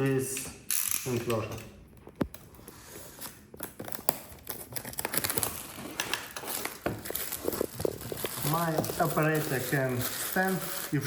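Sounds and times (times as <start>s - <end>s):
cardboard packaging crinkling: 2.0s - 11.0s.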